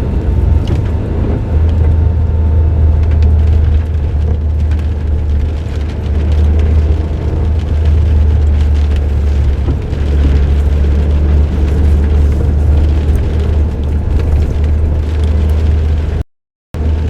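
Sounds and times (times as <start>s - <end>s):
car engine rumbling: 0.0s - 16.2s, 16.8s - 17.0s
road noise: 0.0s - 16.2s, 16.8s - 17.0s.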